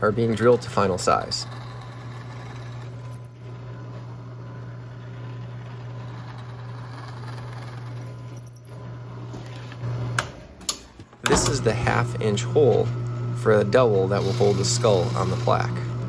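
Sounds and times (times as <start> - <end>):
drill press humming: 0.0 - 16.0.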